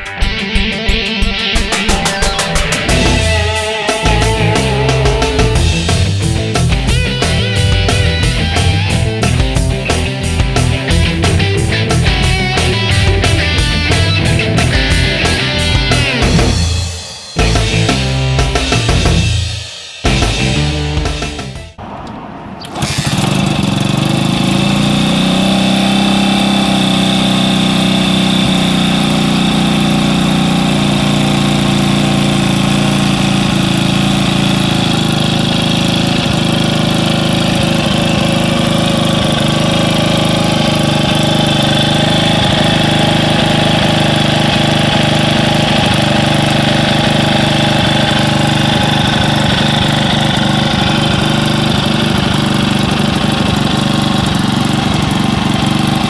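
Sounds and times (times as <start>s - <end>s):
motorcycle engine idling: 1.6s - 56.0s.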